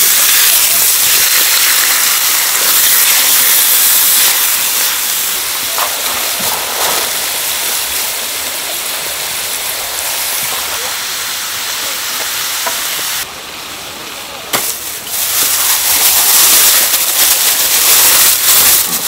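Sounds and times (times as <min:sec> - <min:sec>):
meat sizzling on hot griddle: 0:00.0 - 0:13.3, 0:14.5 - 0:19.0.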